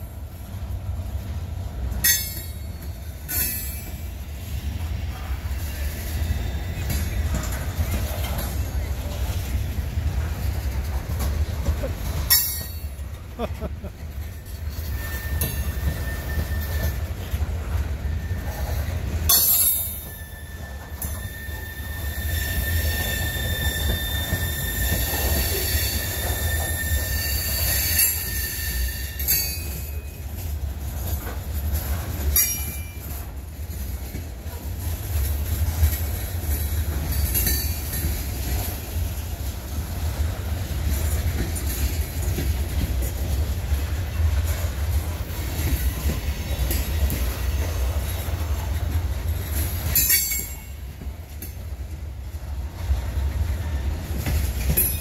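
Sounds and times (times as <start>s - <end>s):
train low rumble: 0.0s - 55.0s
train wheel squeal: 2.0s - 13.3s, 14.0s - 43.3s, 44.0s - 51.9s.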